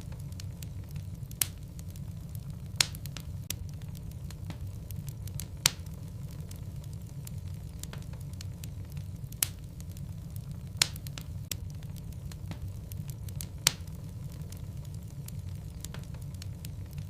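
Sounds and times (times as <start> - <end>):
logs crackling in fireplace: 0.0 - 17.0
low rumble of flames: 0.0 - 17.0.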